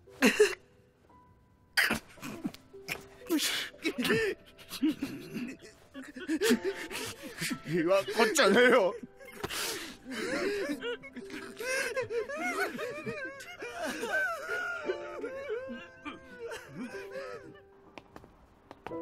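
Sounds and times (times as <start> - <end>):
soft background music: 0.0 - 19.0
men crying and sobbing: 0.1 - 0.7, 1.8 - 17.8.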